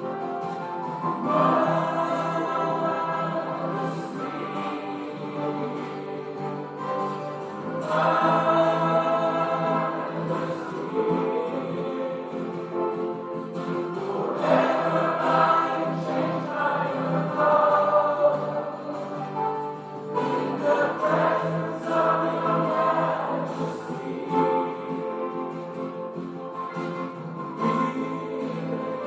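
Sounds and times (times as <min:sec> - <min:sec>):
people singing a hymn: 0:00.0 - 0:29.0.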